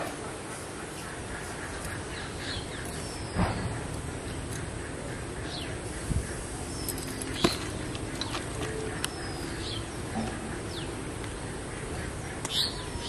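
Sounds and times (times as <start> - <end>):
birds chirping: 0.0 - 13.0
outdoor hiss: 0.0 - 13.0.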